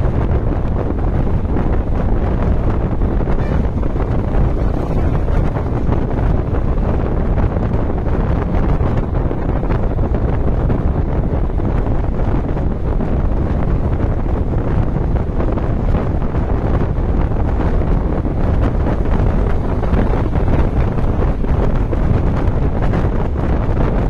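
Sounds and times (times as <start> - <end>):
bus and tyres rumbling on road: 0.0 - 24.0
wind buffeting microphone: 0.0 - 24.0.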